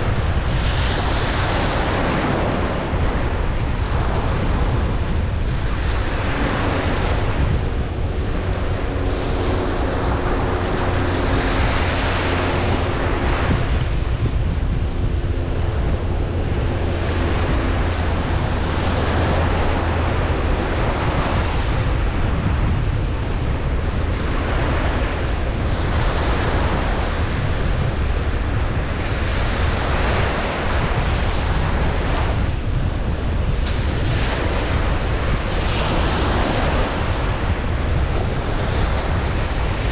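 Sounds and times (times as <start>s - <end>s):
low rumble: 0.0s - 39.9s
ocean waves breaking: 0.0s - 39.9s.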